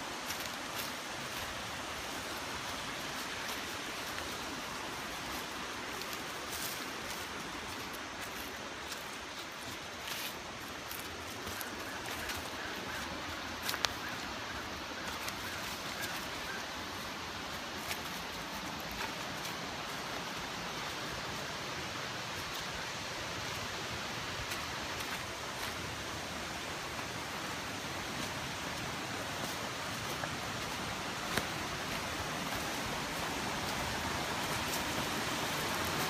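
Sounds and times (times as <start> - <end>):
footsteps in leaf litter: 0.0 - 36.0
river rushing over rocks: 0.0 - 36.0.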